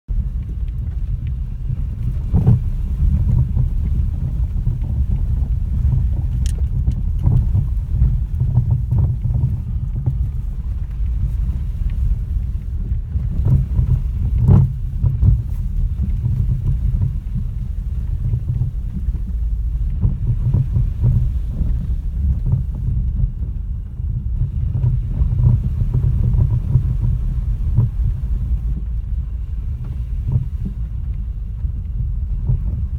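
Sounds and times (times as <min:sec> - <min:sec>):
low road rumble: 0:00.0 - 0:32.9
suspension knocking: 0:00.1 - 0:32.9.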